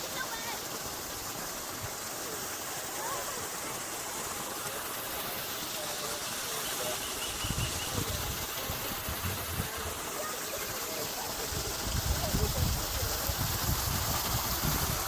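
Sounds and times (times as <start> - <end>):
faint distant voices: 0.0 - 15.0
running water: 0.0 - 15.0.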